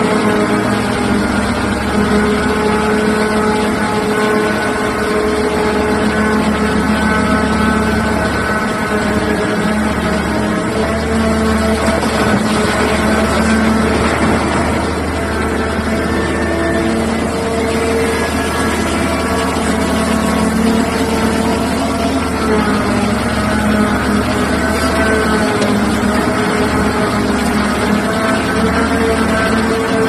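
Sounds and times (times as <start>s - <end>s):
excavator diesel engines droning: 0.0s - 30.0s.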